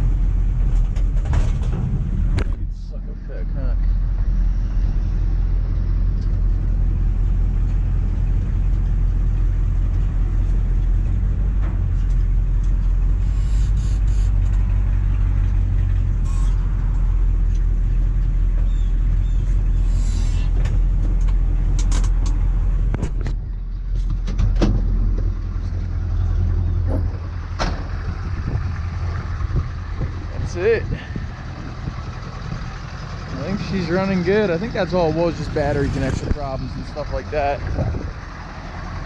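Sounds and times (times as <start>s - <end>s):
diesel engine running: 0.0s - 39.0s
road noise: 0.0s - 39.0s.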